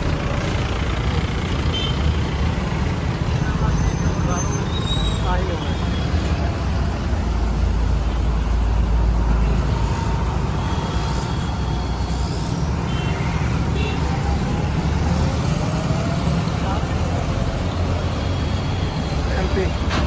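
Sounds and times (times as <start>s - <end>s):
harvester diesel engines passing: 0.0s - 20.0s
road traffic: 0.0s - 20.0s.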